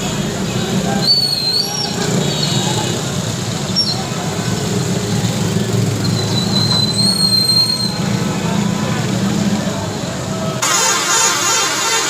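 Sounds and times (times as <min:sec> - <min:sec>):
low rumble of vehicle traffic: 0:00.0 - 0:12.0.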